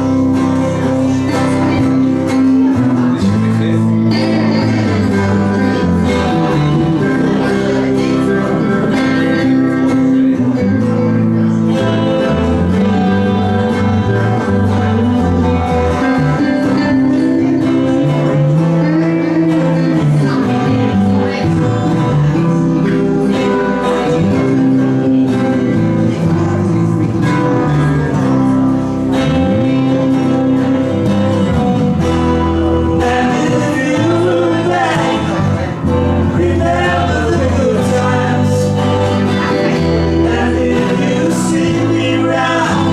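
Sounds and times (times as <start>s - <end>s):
country band with acoustic guitars: 0.0s - 42.9s
voices singing: 0.0s - 42.9s.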